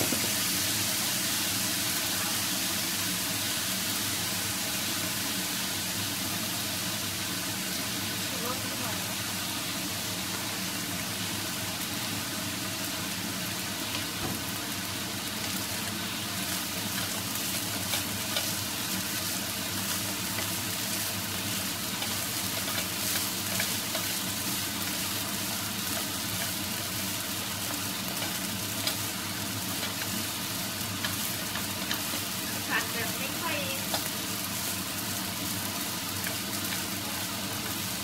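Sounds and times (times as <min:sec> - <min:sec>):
rice sizzling in a frying pan: 0:00.0 - 0:38.0.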